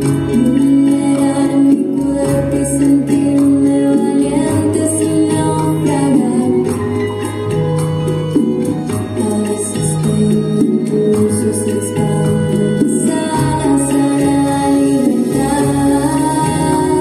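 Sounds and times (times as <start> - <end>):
woman singing: 0.0 - 7.4, 8.6 - 17.0.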